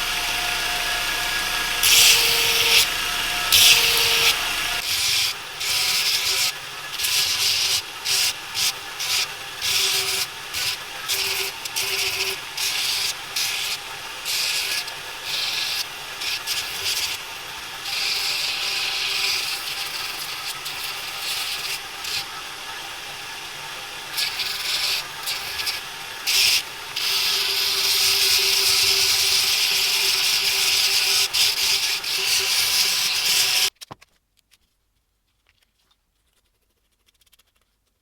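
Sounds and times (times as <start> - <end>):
abrasive sanding scrape: 1.1 - 33.7.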